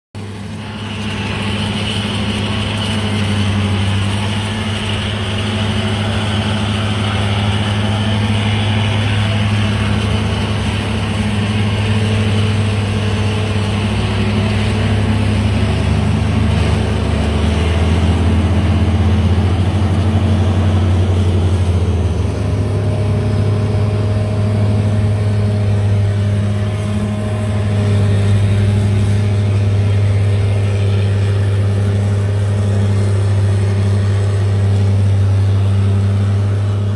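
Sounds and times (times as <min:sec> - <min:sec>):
diesel machinery engine drone: 0:00.2 - 0:36.9
high machine whine: 0:00.2 - 0:36.9.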